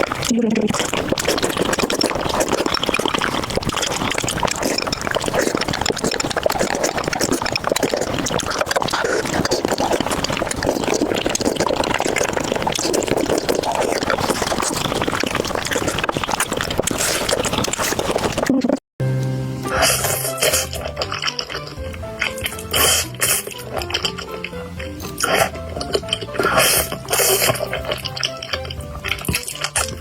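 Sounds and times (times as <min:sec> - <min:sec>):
person slurping and chewing noodles: 0:00.0 - 0:18.8, 0:19.6 - 0:30.0.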